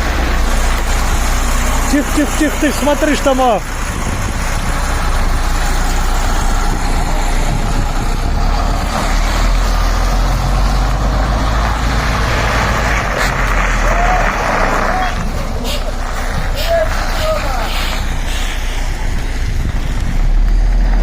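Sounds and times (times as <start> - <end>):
heavy truck engine rumble: 0.0 - 21.0.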